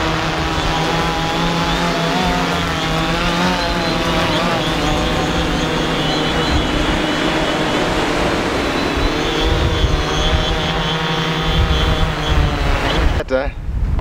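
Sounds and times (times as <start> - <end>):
drone propellers whining: 0.0 - 13.3.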